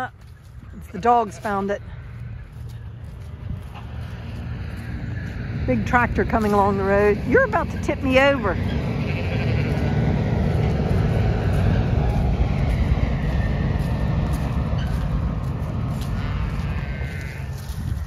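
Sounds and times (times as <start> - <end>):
tractor engine rumble: 0.0 - 18.0.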